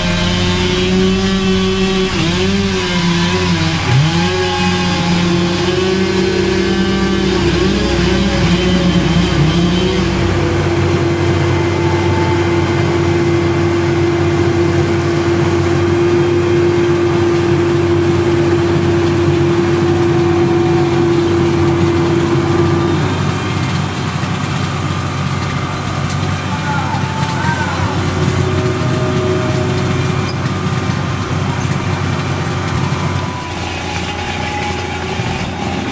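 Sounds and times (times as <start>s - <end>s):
heavy machinery engine revving: 0.0s - 35.9s.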